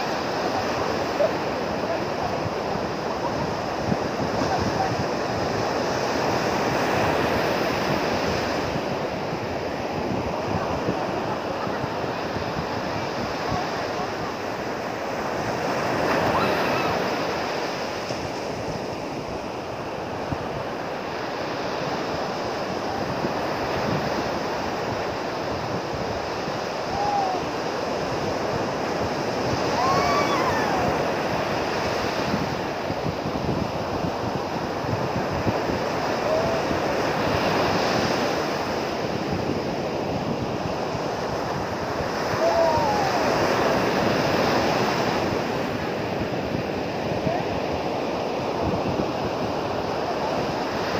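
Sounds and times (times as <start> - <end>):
ocean surf breaking: 0.0 - 50.9.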